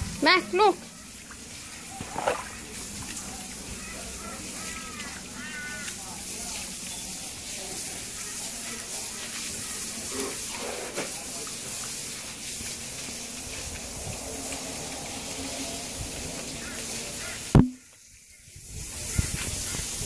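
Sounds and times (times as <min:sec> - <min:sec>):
spraying water hiss: 0:00.0 - 0:20.0.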